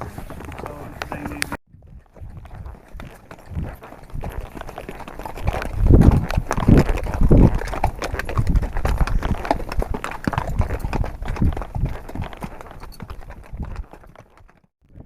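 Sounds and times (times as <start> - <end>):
horse hooves clip-clopping: 0.0 - 14.7.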